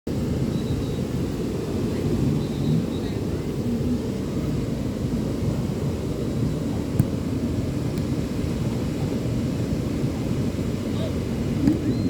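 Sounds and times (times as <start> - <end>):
ocean surf rumbling: 0.1 - 12.0.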